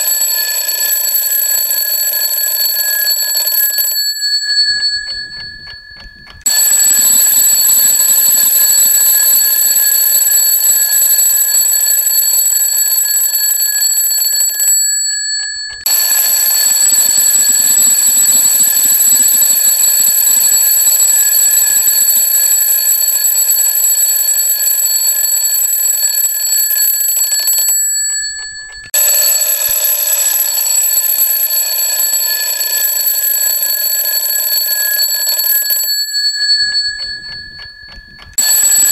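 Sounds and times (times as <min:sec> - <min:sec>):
mechanical alarm clock ringing: 0:00.0 - 0:38.9.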